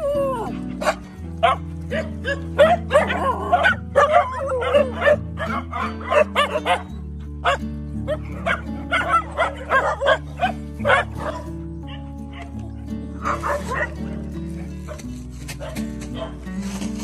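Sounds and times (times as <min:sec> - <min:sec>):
background music with low notes: 0:00.0 - 0:17.0
dogs barking and yipping: 0:00.0 - 0:17.0.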